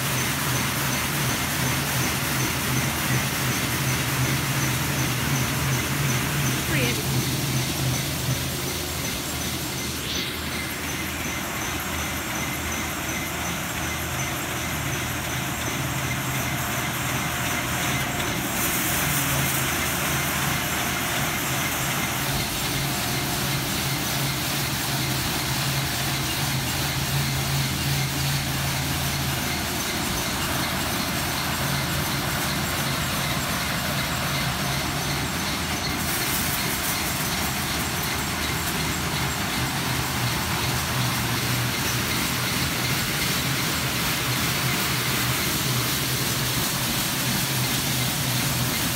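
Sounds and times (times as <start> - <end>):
high-pressure water jets hissing: 0.0 - 48.9
pump humming: 0.0 - 48.9.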